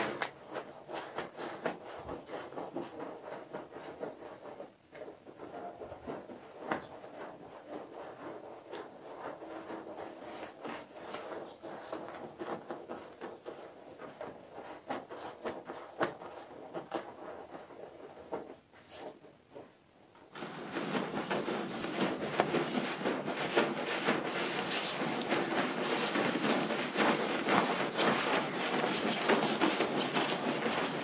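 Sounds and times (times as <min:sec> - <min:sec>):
brush scrubbing wet soapy carpet: 0:00.0 - 0:19.7, 0:20.3 - 0:31.0.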